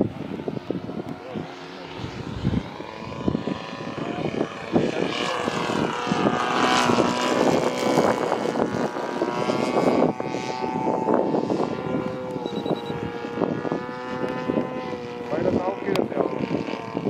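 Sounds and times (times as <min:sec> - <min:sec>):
model plane engine in flight: 0:00.0 - 0:17.0.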